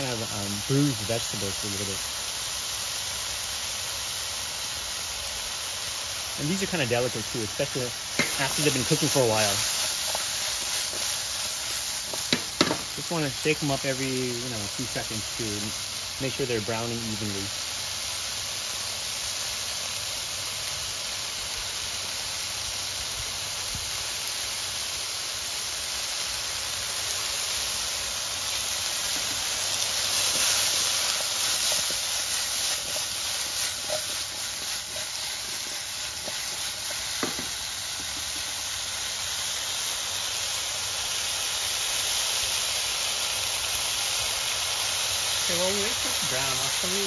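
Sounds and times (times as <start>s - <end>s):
squash sizzling in hot oil: 0.0s - 47.0s.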